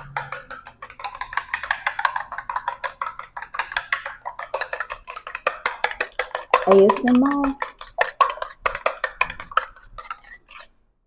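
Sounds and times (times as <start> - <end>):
whisk clicking against bowl: 0.0 - 10.7.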